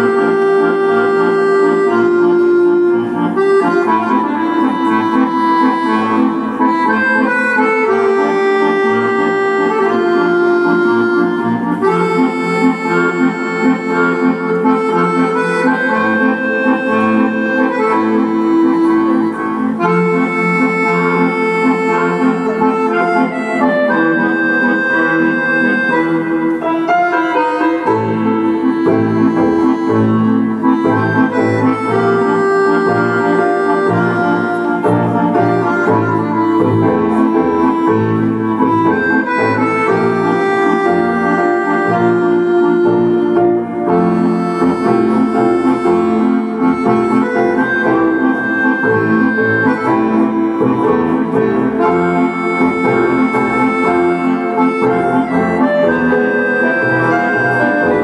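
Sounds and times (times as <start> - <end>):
tango music with bandoneon: 0.0 - 58.0.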